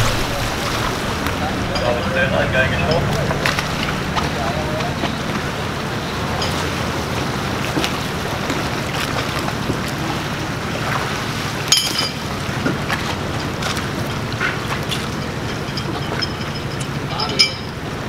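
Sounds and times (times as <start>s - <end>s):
boat engines humming: 0.0s - 18.0s
propeller wash churning water: 0.0s - 18.0s.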